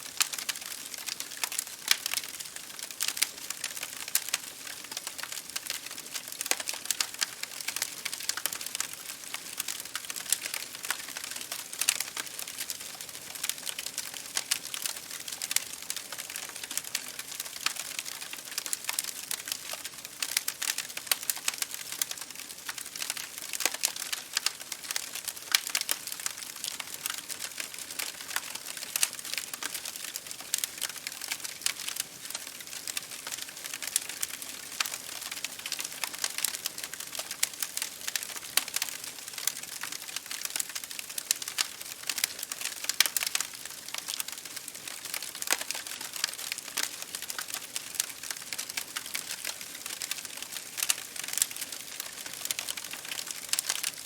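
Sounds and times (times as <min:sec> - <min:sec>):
rain on a window: 0:00.0 - 0:54.0
wood fire crackling: 0:00.1 - 0:54.0.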